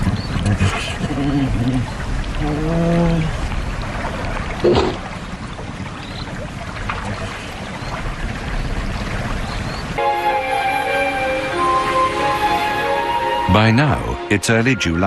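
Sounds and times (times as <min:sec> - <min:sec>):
moving water: 0:00.0 - 0:15.0
wind: 0:00.0 - 0:15.0.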